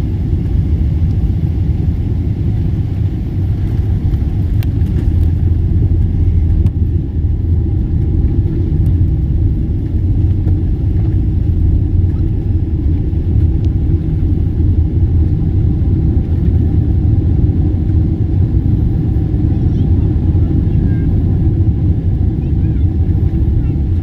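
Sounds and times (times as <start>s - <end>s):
vehicle rumble from inside: 0.0s - 24.0s.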